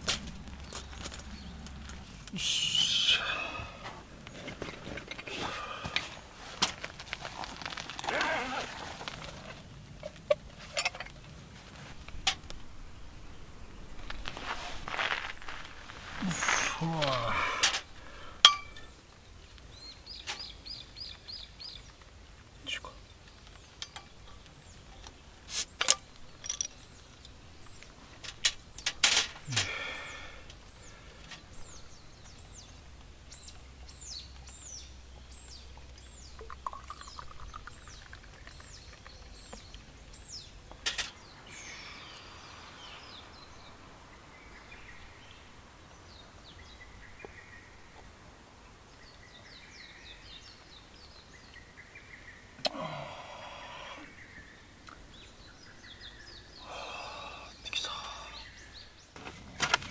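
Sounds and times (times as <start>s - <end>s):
birds singing chirps and trills: 0.0s - 59.9s.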